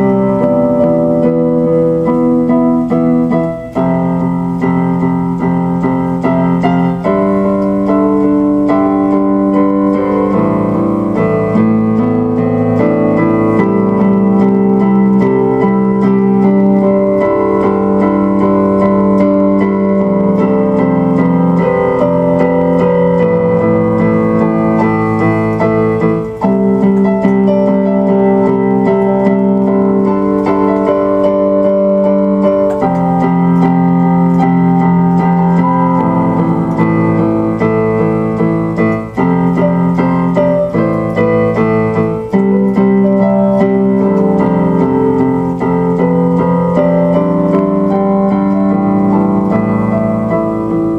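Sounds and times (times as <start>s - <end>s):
electric piano chords: 0.0s - 50.9s.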